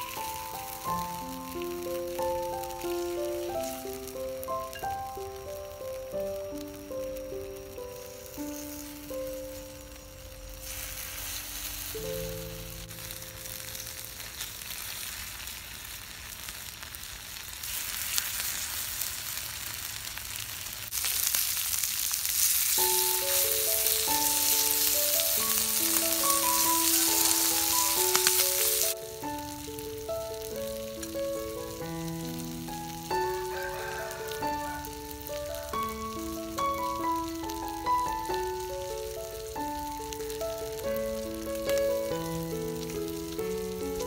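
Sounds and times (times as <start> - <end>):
pork sizzling on a griddle: 0.0 - 44.0.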